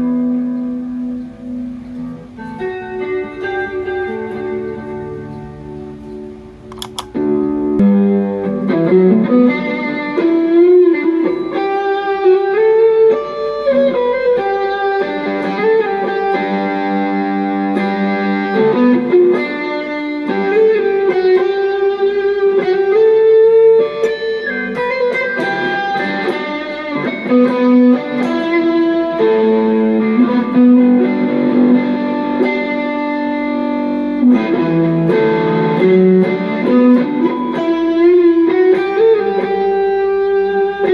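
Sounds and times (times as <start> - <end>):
electric guitar lead with bends: 0.0 - 40.9.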